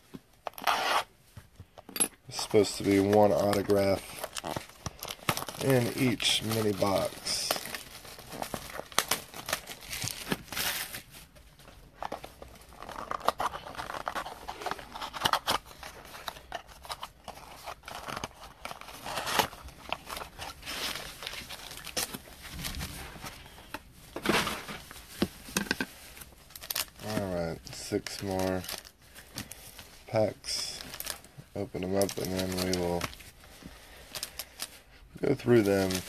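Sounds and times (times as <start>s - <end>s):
packaging tearing and crinkling: 2.3s - 36.0s.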